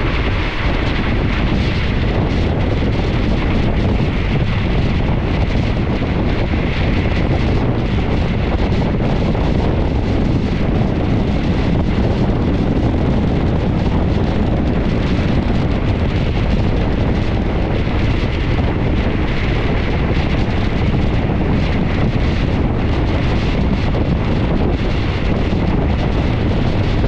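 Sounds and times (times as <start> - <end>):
train running on rails: 0.0 - 27.0
wind buffeting microphone: 0.0 - 27.0.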